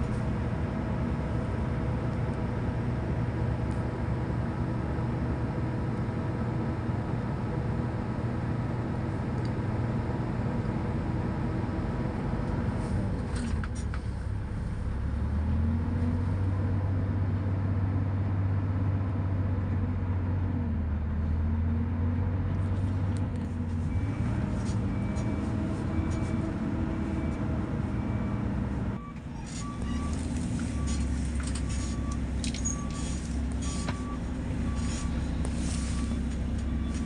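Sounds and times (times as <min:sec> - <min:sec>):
diesel truck engine under load: 0:00.0 - 0:37.0.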